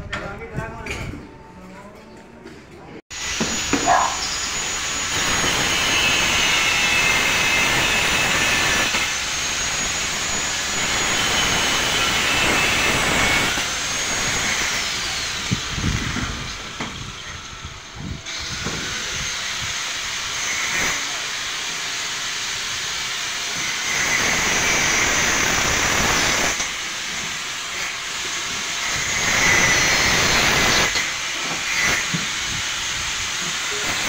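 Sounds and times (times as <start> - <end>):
angle grinder grinding steel: 3.2 - 34.0.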